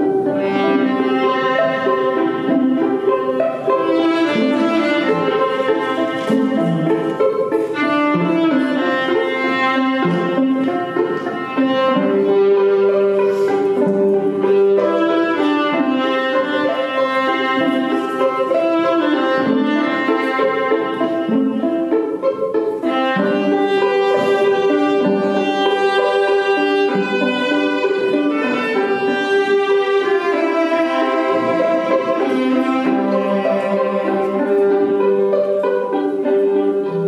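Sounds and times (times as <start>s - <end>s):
violin and strings music: 0.0s - 37.0s.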